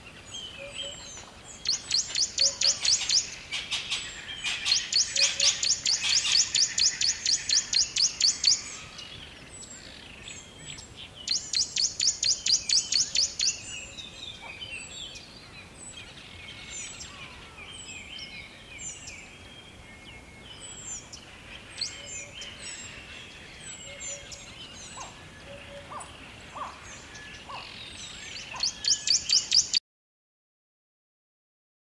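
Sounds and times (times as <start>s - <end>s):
birds chirping: 0.0s - 29.8s.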